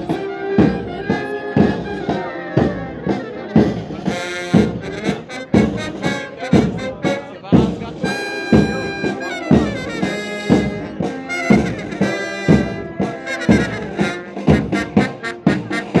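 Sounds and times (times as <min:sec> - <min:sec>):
brass playing march melody: 0:00.0 - 0:16.0
marching drums: 0:00.0 - 0:16.0.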